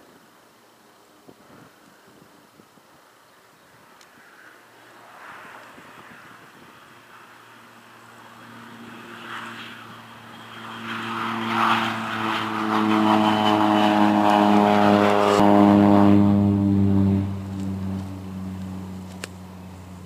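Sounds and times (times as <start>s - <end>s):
biplane engine and propeller: 3.1s - 20.0s.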